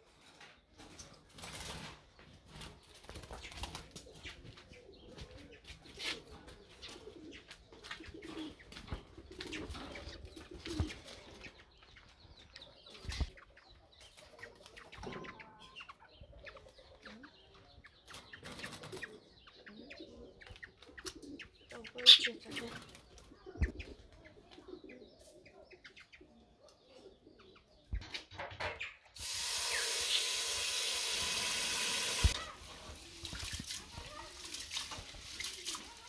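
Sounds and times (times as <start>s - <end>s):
birds fluttering in cages: 0.0s - 36.0s.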